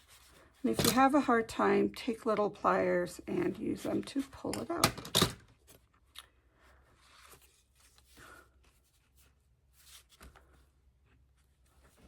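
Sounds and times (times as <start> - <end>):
paper and thread rustling: 0.0 - 4.8, 5.6 - 12.0.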